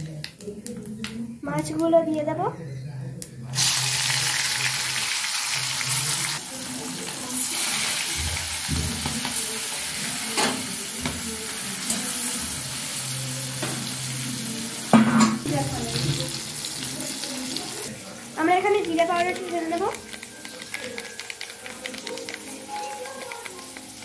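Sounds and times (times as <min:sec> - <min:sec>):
fish frying in hot oil: 0:03.6 - 0:14.7, 0:15.5 - 0:24.0.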